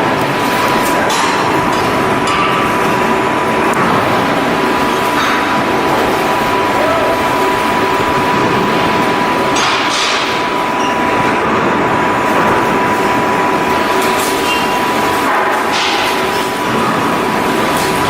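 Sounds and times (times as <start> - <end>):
machinery noise with thin whine: 0.0 - 18.0.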